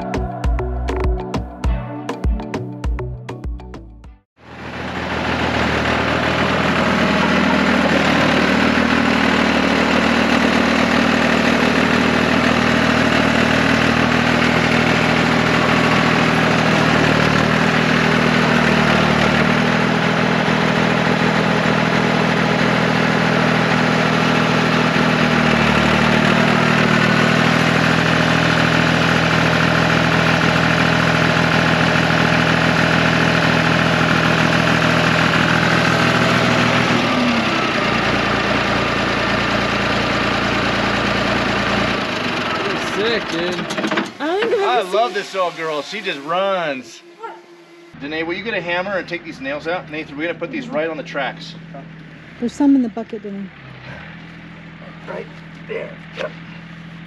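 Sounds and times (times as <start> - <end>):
bulldozer engine running: 0.0 - 1.9, 4.4 - 57.0.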